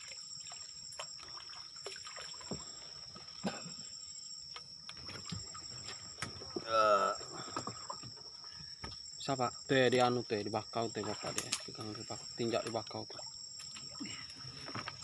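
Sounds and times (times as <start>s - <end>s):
night insects chirping: 0.0s - 15.0s
water splashing and trickling: 0.0s - 15.0s.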